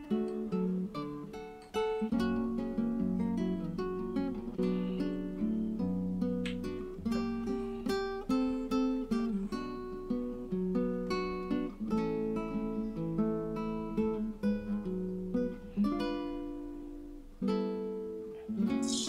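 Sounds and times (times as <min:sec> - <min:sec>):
acoustic guitar plucking melody: 0:00.0 - 0:19.0.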